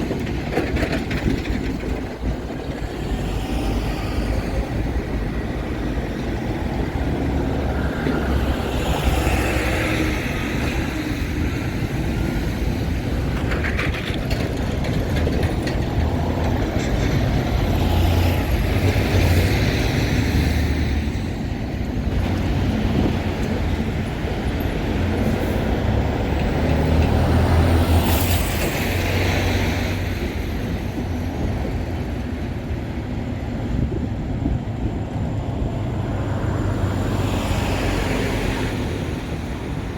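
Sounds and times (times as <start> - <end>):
freight train rumbling past: 0.0 - 39.9
train wheel noise: 0.0 - 39.9.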